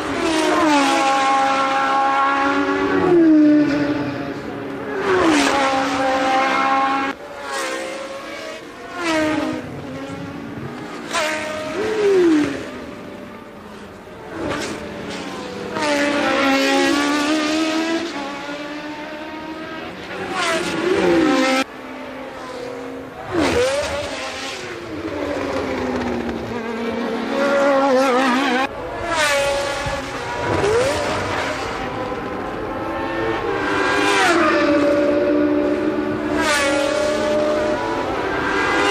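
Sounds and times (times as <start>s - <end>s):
racing cars passing: 0.0s - 38.9s.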